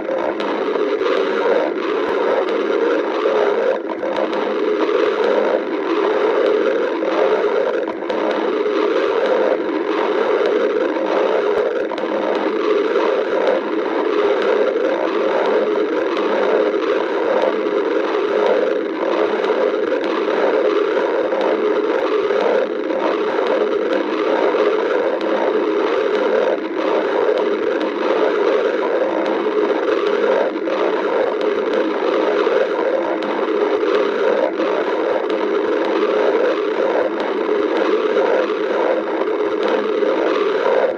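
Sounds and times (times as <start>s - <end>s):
stomach growling: 0.0s - 40.9s.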